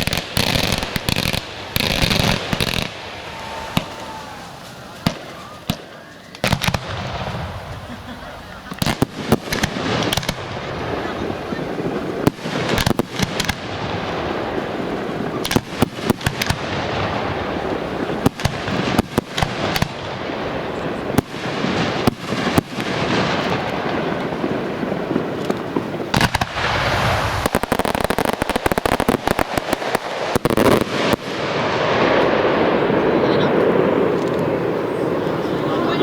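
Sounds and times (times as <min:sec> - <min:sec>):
rapid crackling pops: 0:00.0 - 0:08.0, 0:08.6 - 0:31.4
firework shells bursting: 0:00.0 - 0:34.8
crackling hiss: 0:00.0 - 0:36.0.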